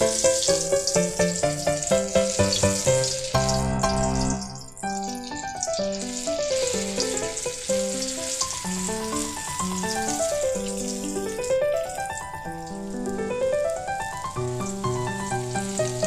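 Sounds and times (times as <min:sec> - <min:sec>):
omelette sizzling in hot oil: 0:00.0 - 0:16.0
quick melodic background music: 0:00.0 - 0:16.0.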